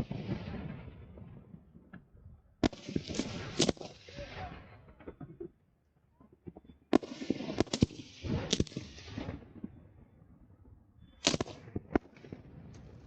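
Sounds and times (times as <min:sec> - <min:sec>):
fireworks bangs: 0:00.0 - 0:05.5, 0:06.3 - 0:10.3, 0:11.1 - 0:13.0.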